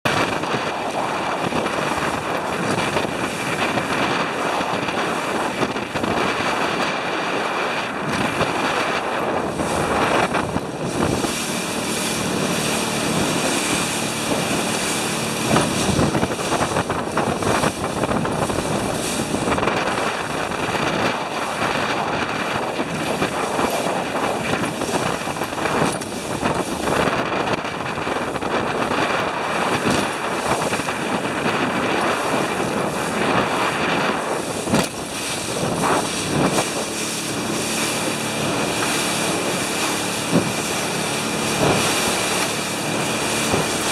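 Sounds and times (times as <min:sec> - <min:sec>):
outboard motor running: 0:00.0 - 0:43.9
water rushing past hull: 0:00.0 - 0:43.9
wind on microphone: 0:00.0 - 0:43.9.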